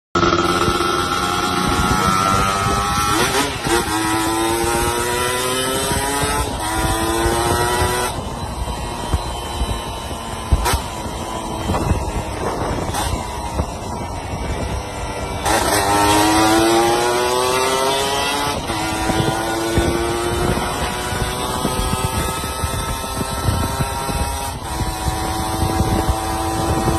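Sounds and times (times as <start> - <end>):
two-stroke motorcycle engine revving: 0.2 - 26.9.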